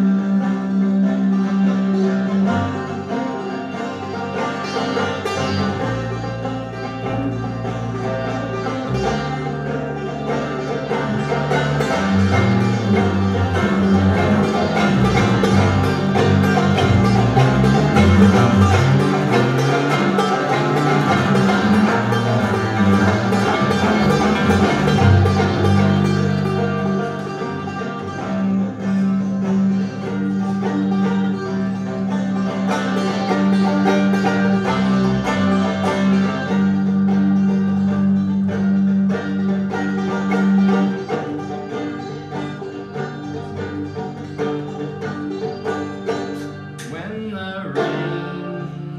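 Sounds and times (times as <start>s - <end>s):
banjo picking: 0.0s - 48.9s
bowed double bass: 0.0s - 48.9s.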